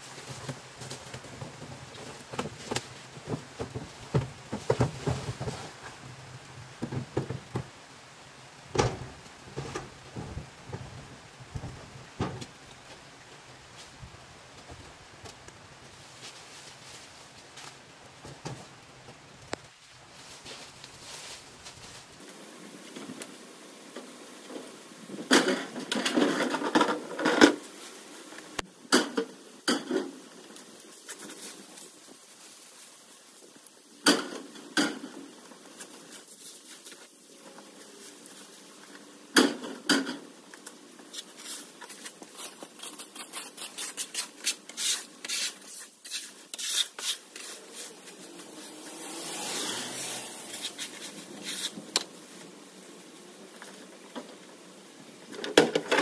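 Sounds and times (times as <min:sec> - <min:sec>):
branches scraping and rubbing: 0:00.0 - 0:06.6, 0:09.0 - 0:18.8, 0:19.4 - 0:28.6, 0:29.4 - 0:56.0.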